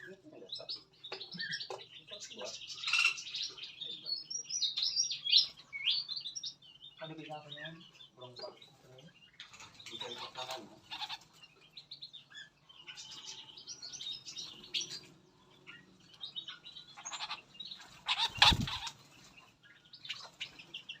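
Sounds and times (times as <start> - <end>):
small birds chirping and twittering: 0.0 - 21.0.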